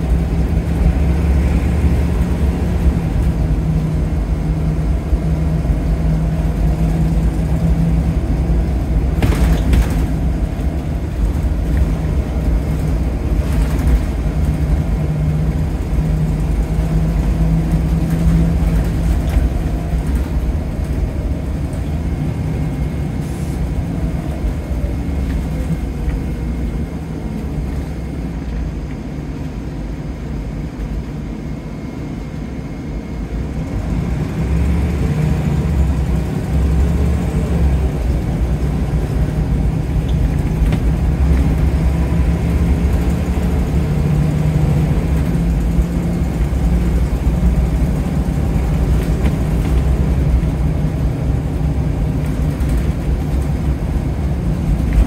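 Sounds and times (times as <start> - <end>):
bus diesel engine humming: 0.0 - 55.0.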